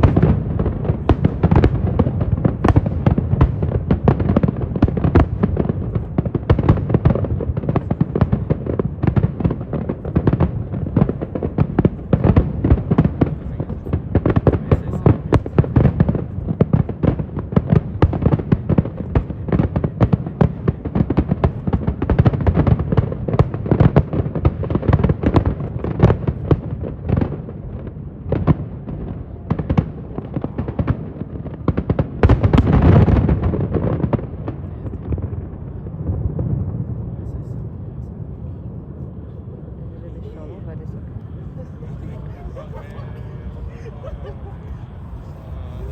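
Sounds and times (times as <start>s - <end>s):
fireworks bangs and crackles: 0.0s - 45.9s
rumbling firework bursts: 0.0s - 45.9s.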